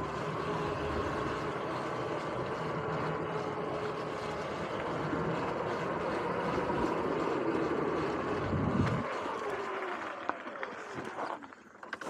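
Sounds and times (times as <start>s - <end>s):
electric motorbike motor whine: 0.0s - 12.0s
tyres rumbling on wooden planks: 0.0s - 12.0s.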